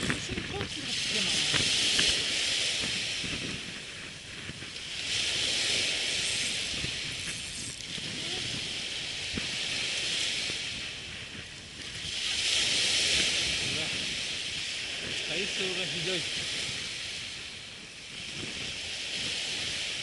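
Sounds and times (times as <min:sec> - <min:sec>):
waves washing onto sandy beach: 0:00.0 - 0:20.0.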